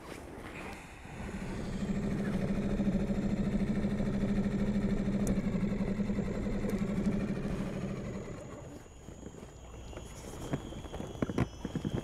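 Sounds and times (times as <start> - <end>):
boat engine running: 0.9 - 12.0.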